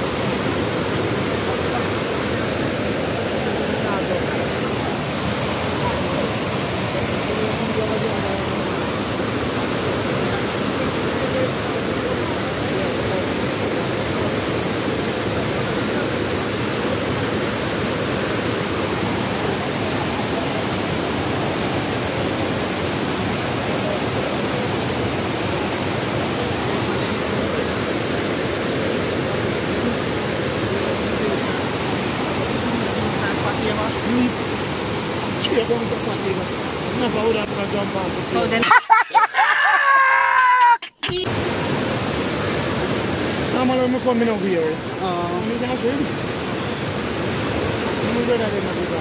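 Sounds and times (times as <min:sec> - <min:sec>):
river over rocky cascades: 0:00.0 - 0:39.4, 0:41.1 - 0:49.0.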